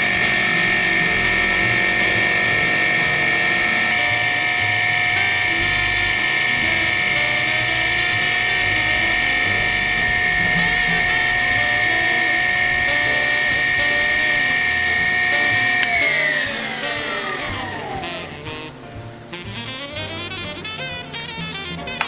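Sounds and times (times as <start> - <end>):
milling machine spindle whine: 0.0 - 18.8.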